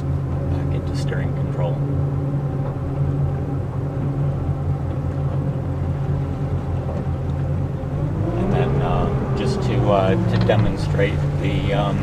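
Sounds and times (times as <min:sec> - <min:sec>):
boat engines idling: 0:00.0 - 0:12.0.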